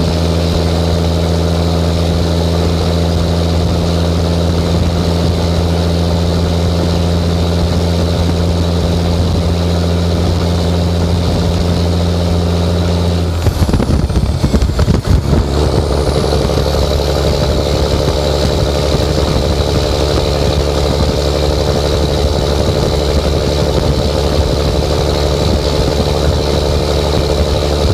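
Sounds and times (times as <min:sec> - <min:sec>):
diesel truck engine running loud: 0:00.0 - 0:27.9.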